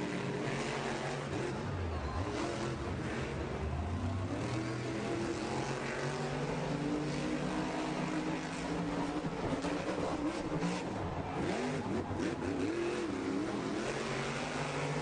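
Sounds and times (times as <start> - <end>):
monster truck engines running: 0.0 - 15.0.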